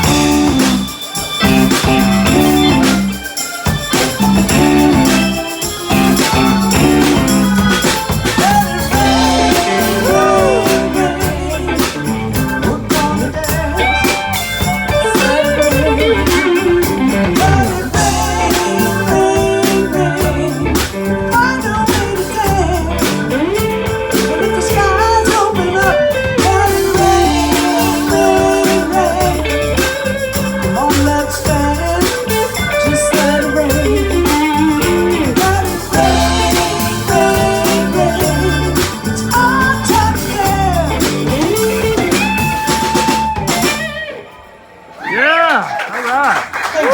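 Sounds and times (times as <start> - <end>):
blues-rock band playing: 0.0 - 44.9
electric guitar bending notes: 0.0 - 45.0.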